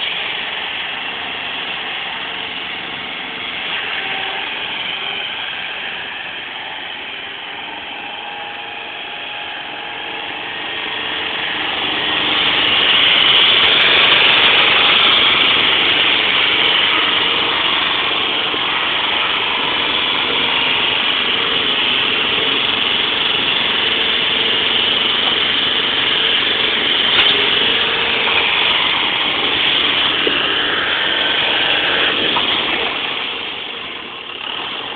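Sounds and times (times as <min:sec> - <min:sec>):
forklift engine running: 0:00.0 - 0:34.9.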